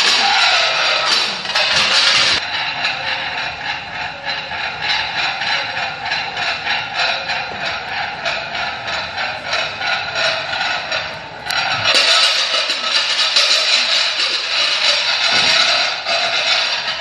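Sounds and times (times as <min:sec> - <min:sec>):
loud dense noise: 0:00.0 - 0:17.0
shaker rattling rhythmically: 0:00.0 - 0:17.0.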